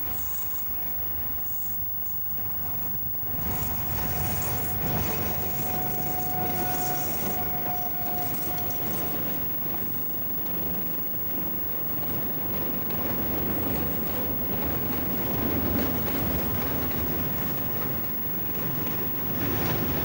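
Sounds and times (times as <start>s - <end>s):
steady high whine: 0.0s - 20.0s
train wheels rumbling on rails: 0.0s - 20.0s.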